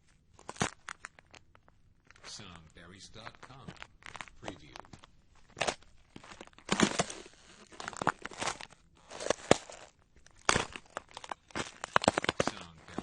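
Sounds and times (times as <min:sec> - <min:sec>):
footsteps crunching on ice: 0:00.4 - 0:01.3, 0:02.1 - 0:13.0.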